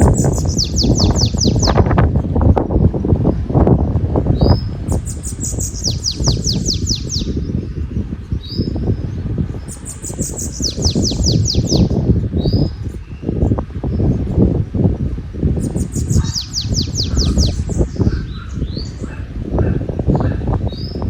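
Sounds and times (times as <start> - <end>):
songbird singing: 0.0 - 21.0
wind buffeting microphone: 0.0 - 21.0.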